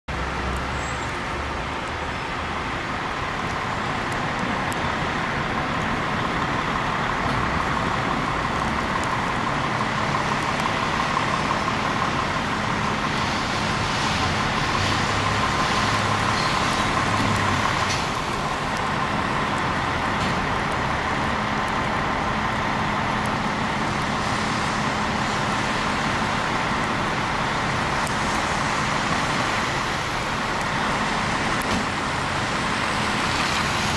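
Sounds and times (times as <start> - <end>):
city street traffic: 0.0 - 33.9.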